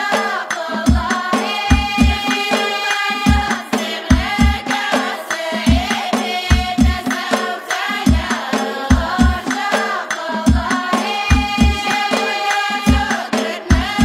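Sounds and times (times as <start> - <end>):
men's choir singing: 0.0 - 14.0.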